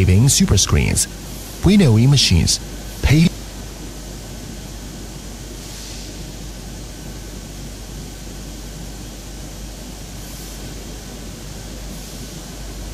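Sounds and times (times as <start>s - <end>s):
machinery rushing hum: 0.0s - 12.9s.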